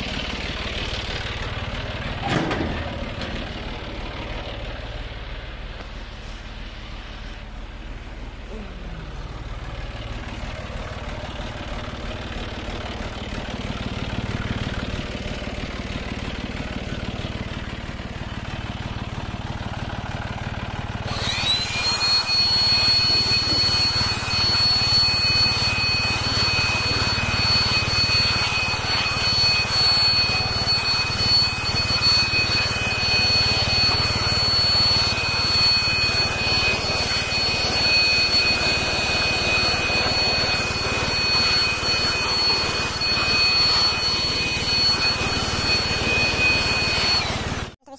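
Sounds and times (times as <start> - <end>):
tractor diesel engine running: 0.0 - 47.9
turbocharger whistle: 0.0 - 47.9.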